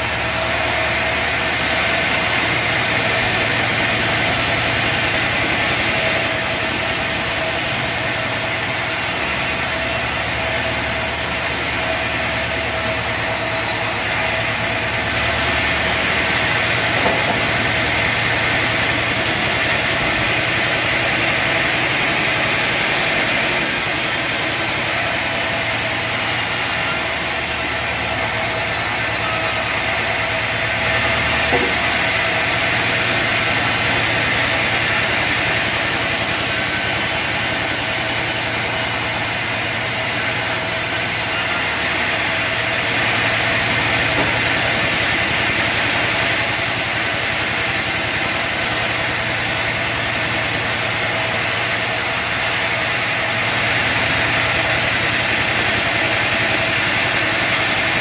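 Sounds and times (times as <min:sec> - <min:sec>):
bandsaw sawmill running: 0:00.0 - 0:58.0.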